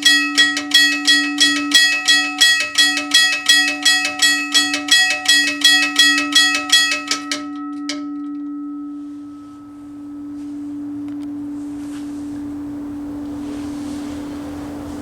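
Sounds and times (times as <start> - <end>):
railroad crossing bell ringing: 0.0 - 15.0
steady low hum: 0.0 - 15.0.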